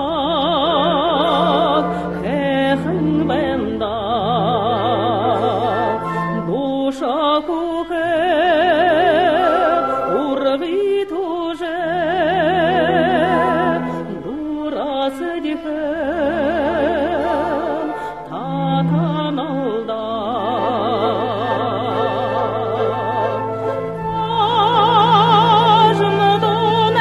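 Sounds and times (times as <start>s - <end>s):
solo singer with vibrato: 0.0s - 27.0s.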